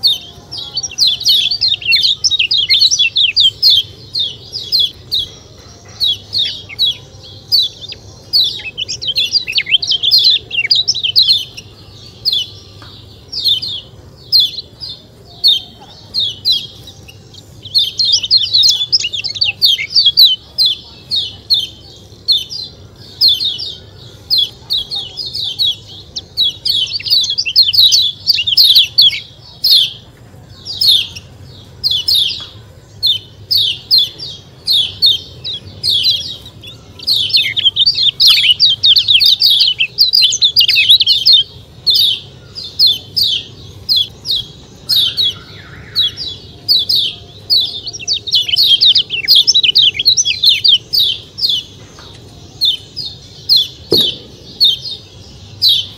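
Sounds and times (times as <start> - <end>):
songbird high sharp chirps: 0.0 - 55.9.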